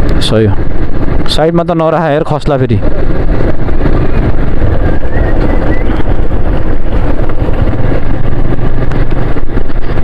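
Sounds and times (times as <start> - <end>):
motorcycle engine running: 0.0 - 10.0
wind rushing over microphone: 0.0 - 10.0.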